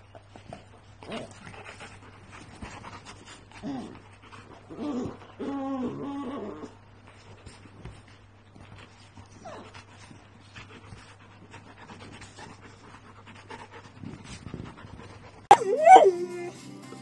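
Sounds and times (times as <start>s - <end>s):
dogs panting: 0.0s - 16.1s.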